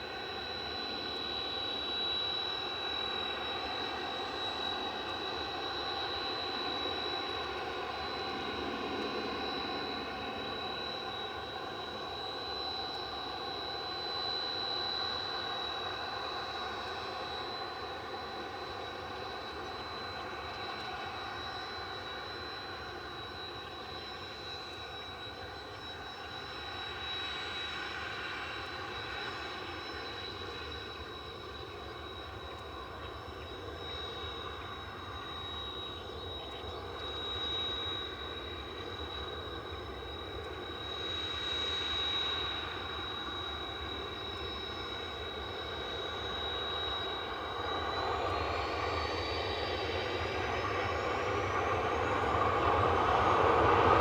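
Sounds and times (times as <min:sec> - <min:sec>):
jet engine whine and rumble: 0:00.0 - 0:54.0.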